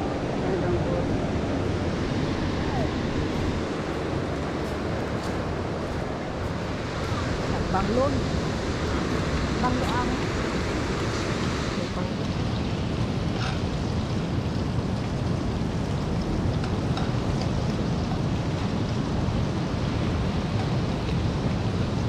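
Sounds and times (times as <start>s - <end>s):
surf and wind rumble: 0.0s - 22.0s.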